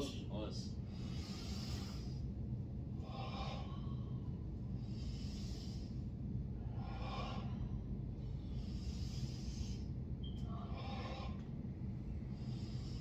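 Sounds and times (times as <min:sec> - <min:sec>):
low room hum: 0:00.0 - 0:13.0
person breathing slowly: 0:00.8 - 0:13.0.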